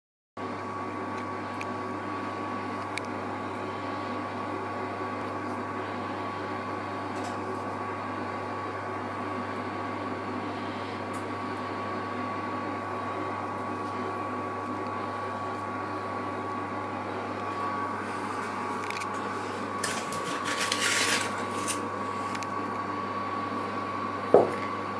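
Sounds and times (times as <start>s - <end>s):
kitchen appliance humming: 0.4s - 24.9s.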